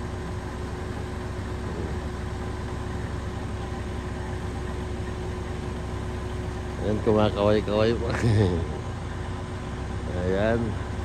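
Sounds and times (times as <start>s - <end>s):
faint constant hum: 0.0s - 11.0s
low machine rumble: 0.0s - 11.0s.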